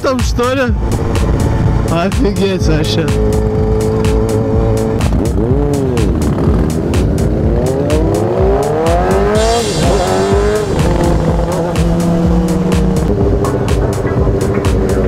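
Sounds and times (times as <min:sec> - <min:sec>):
music with a steady beat: 0:00.0 - 0:15.0
motorcycle engine revving: 0:00.8 - 0:15.0.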